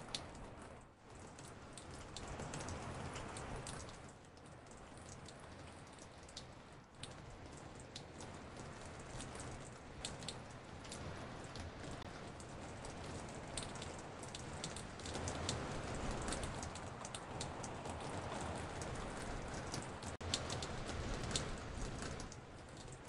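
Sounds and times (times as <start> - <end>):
raindrops dripping on porch: 0.0 - 23.0
steady rainfall hiss: 0.0 - 23.0.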